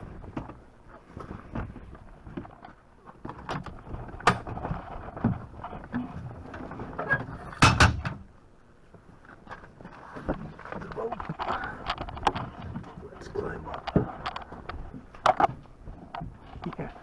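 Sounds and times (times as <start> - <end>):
knocks and scrapes climbing boat: 0.0 - 8.3, 9.0 - 17.0.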